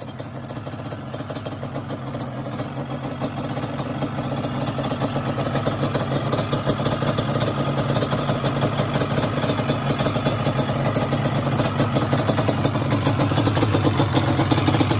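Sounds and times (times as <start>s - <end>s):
two-stroke engine idling: 0.0s - 14.9s.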